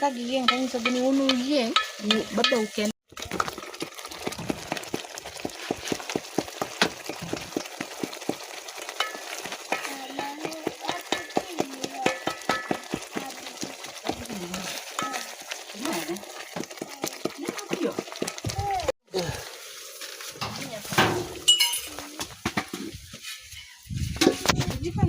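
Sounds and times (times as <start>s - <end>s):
food frying in hot oil: 0.0s - 23.7s.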